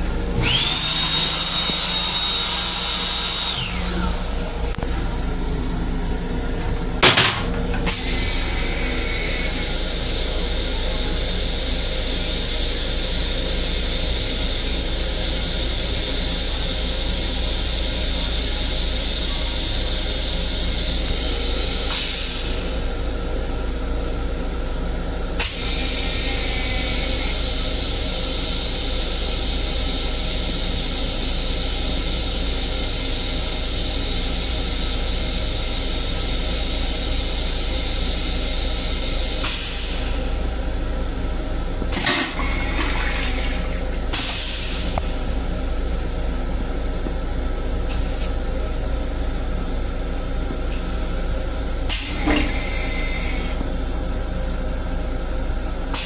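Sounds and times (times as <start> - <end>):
toilet flushing water hissing: 0.0 - 24.2, 25.4 - 47.0, 50.6 - 53.8
steady low hum: 0.0 - 56.0.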